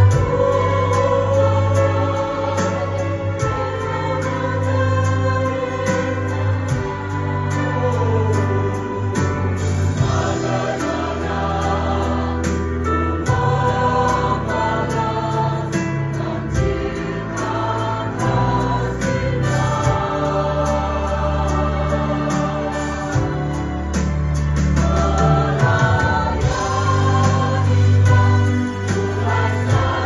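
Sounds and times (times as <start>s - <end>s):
choir singing gospel: 0.0s - 30.0s
instrumental accompaniment with beat: 0.0s - 30.0s.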